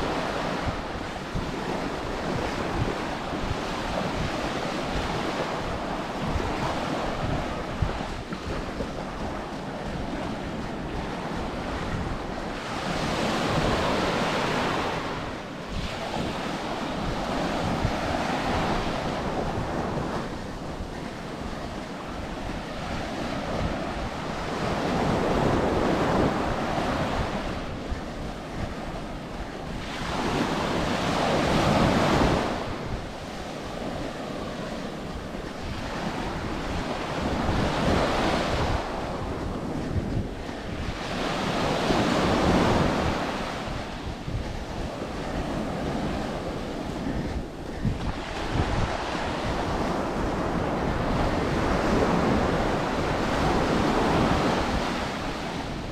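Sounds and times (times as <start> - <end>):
ocean surf washing onto beach: 0.0 - 55.9
wind rumble on microphone: 0.0 - 55.9.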